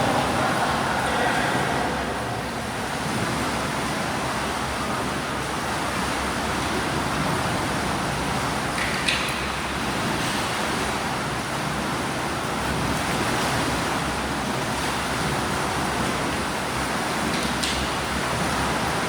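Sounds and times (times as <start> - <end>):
water splashing from swimmers: 0.0 - 19.0.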